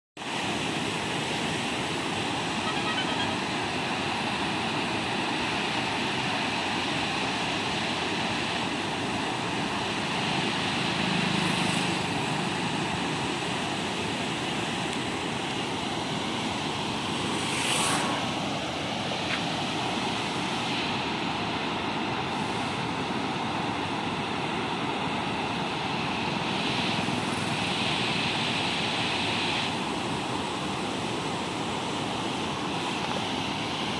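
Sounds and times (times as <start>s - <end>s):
water rushing over weir: 0.2s - 33.9s.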